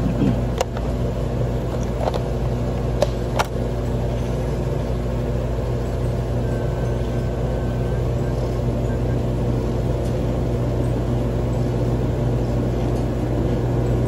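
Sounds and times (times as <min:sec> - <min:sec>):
machine humming: 0:00.0 - 0:14.0.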